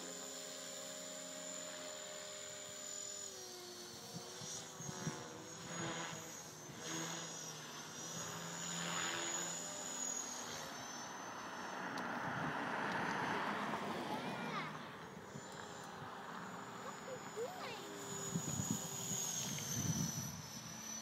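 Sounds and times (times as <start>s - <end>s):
rc helicopter motor whine: 0.0s - 21.0s
rotor hum: 0.0s - 21.0s.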